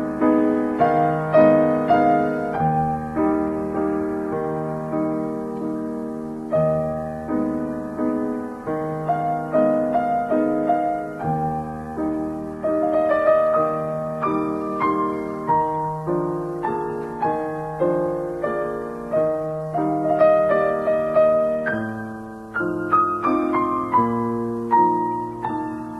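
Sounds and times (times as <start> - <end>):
piano music: 0.0 - 25.9.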